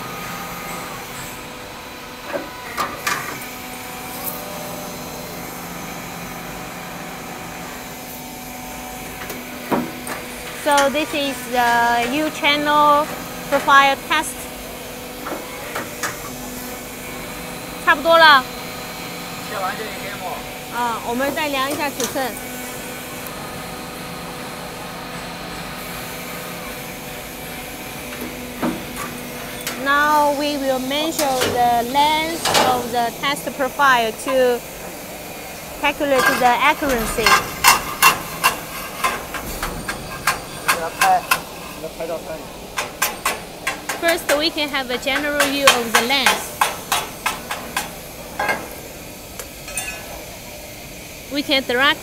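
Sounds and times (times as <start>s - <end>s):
motor tones: 0.0s - 42.8s
roll forming machine humming: 0.0s - 52.0s.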